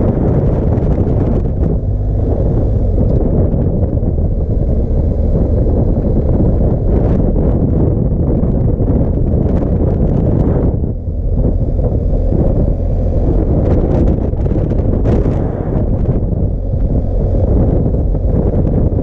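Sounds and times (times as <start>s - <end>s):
motorcycle engine at road speed: 0.0s - 19.0s
wind buffeting microphone: 0.0s - 19.0s.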